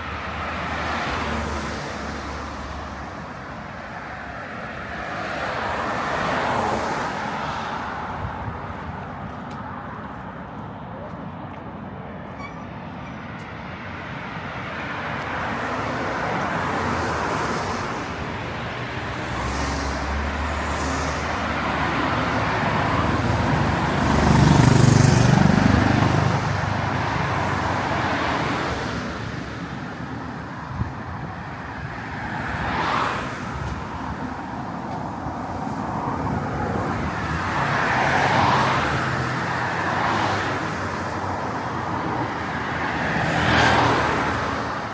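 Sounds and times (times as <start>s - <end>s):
road noise hum: 0.0s - 44.9s
vehicles passing: 0.0s - 44.9s.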